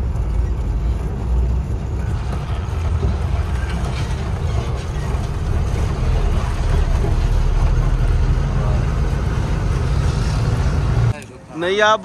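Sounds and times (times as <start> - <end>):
truck diesel engine running: 0.0 - 11.1.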